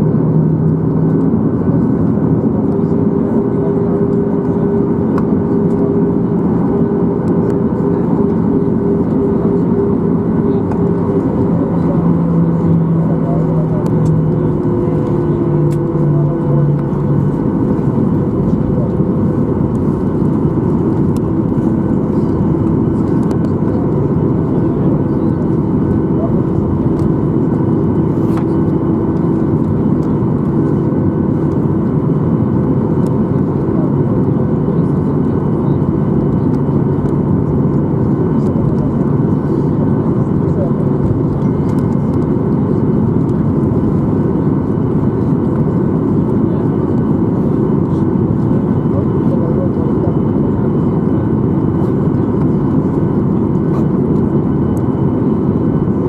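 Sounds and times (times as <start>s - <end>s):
jet engines idling: 0.0s - 56.0s
steady cabin hum: 0.0s - 56.0s.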